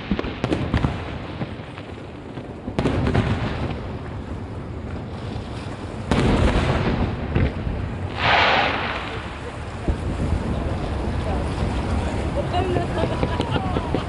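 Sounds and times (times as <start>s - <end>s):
firework sharp pops: 0.0s - 12.1s
firework booms with rumble: 0.0s - 14.0s.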